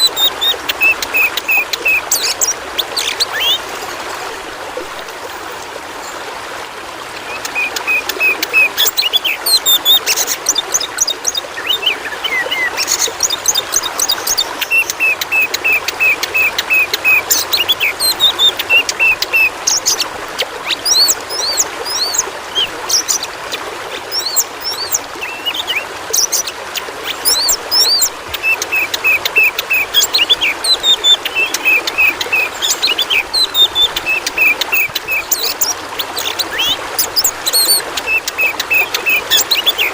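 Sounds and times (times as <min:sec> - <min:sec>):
songbird singing: 0:00.0 - 0:04.0, 0:07.1 - 0:39.9
running water: 0:00.0 - 0:39.9.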